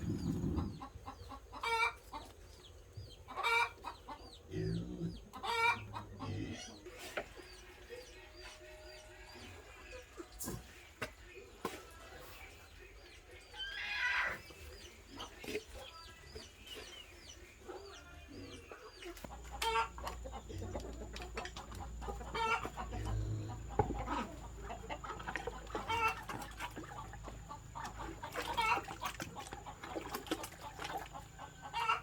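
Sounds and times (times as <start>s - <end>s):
chickens clucking and calling: 0.0s - 32.0s.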